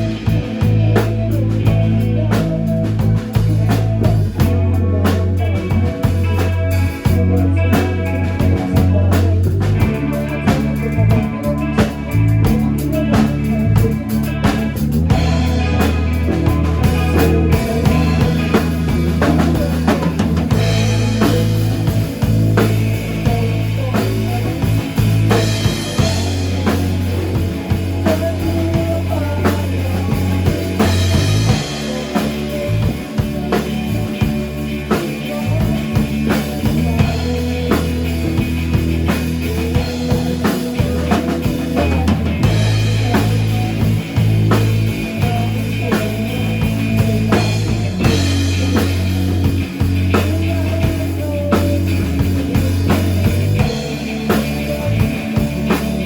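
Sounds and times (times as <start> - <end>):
drum kit beat: 0.0 - 56.0
rock band playing: 0.0 - 56.0
sustained bass guitar notes: 0.0 - 56.0.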